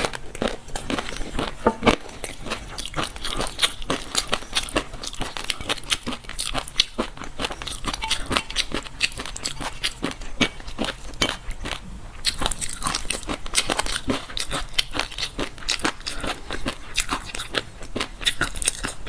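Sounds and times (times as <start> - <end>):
person chewing fish roe: 0.0 - 19.0.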